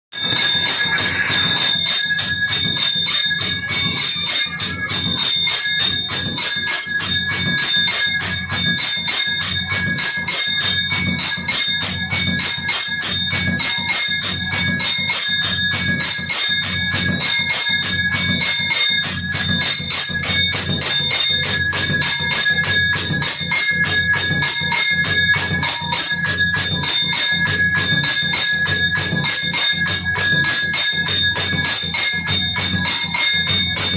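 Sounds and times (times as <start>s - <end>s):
metal bell rung rapidly: 0.1s - 33.9s.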